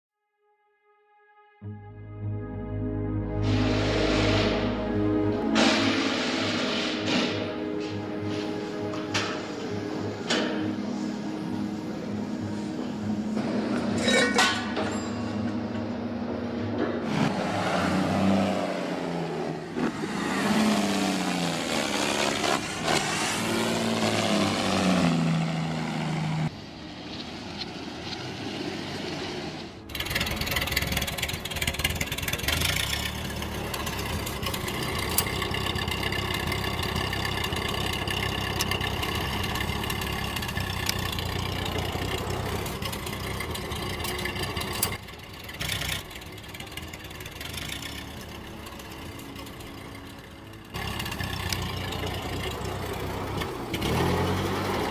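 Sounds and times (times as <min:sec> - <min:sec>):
engine starting and running: 0:03.2 - 0:11.3, 0:12.8 - 0:54.9.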